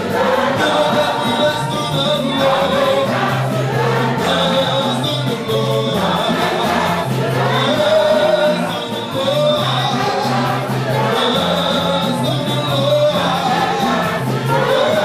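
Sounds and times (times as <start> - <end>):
choir singing gospel music: 0.0 - 15.0
steady bass line: 0.0 - 15.0.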